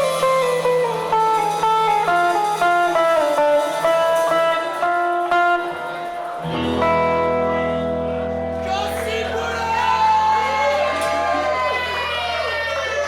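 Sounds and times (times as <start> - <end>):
guitar melody: 0.0 - 13.0.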